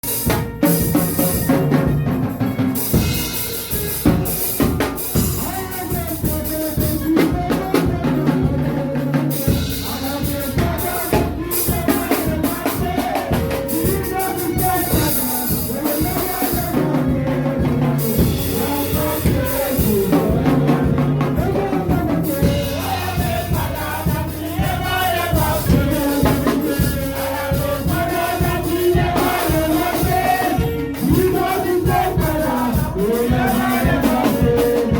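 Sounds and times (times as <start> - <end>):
gospel music with singing: 0.0 - 34.9.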